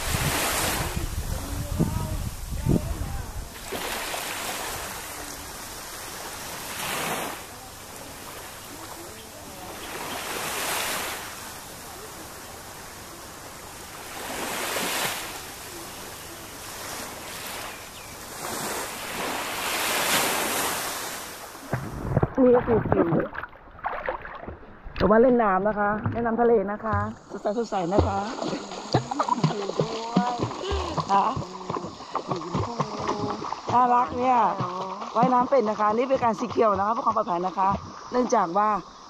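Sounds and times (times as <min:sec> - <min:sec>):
sea waves washing onto shore: 0:00.0 - 0:25.0, 0:26.0 - 0:39.0.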